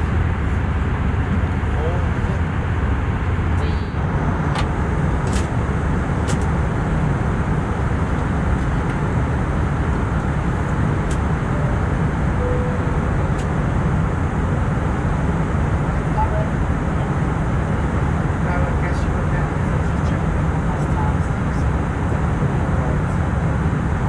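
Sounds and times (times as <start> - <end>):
airplane cabin airflow and engine drone: 0.0 - 24.0.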